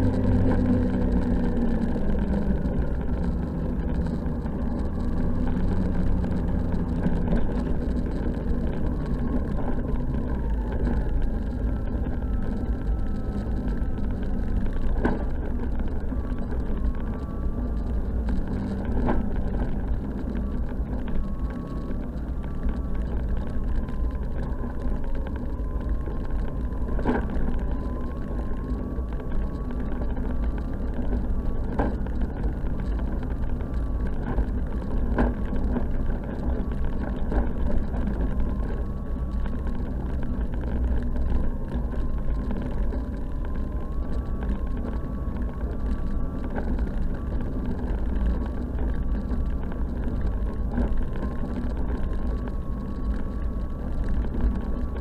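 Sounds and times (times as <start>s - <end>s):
snowmobile engine running: 0.0s - 46.6s.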